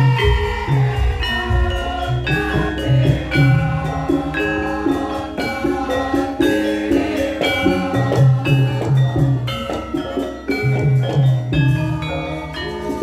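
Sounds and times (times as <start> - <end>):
gamelan ensemble playing: 0.0 - 13.0
steady low beat: 0.0 - 13.0
struck metallophones ringing: 0.0 - 13.0.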